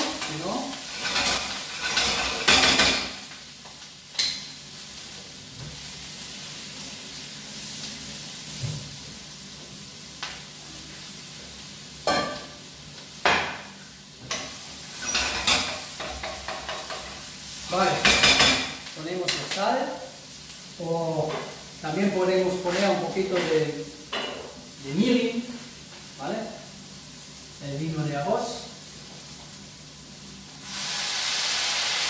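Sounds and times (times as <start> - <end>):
food sizzling in frying pan: 0.0 - 32.0.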